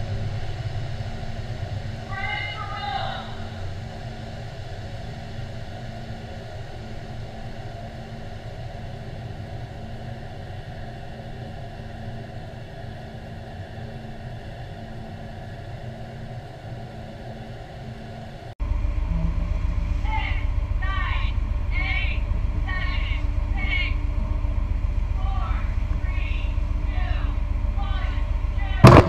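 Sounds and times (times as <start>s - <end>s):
aircraft engine drone: 0.0s - 29.0s.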